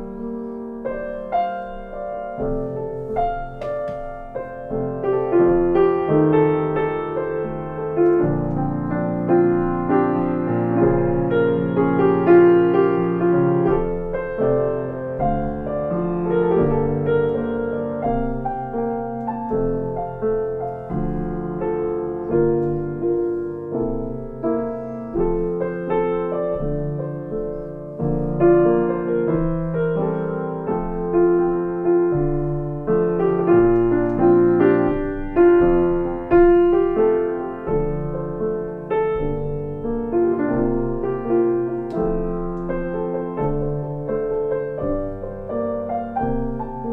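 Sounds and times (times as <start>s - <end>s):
piano playing: 0.0s - 46.9s.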